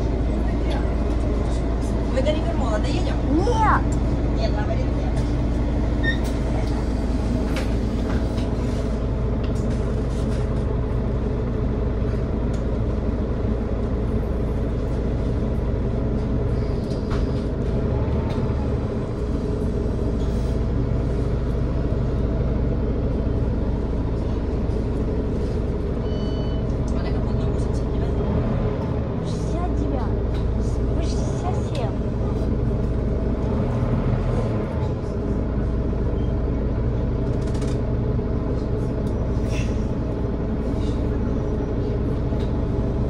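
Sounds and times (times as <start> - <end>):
bus engine drone: 0.0 - 43.0.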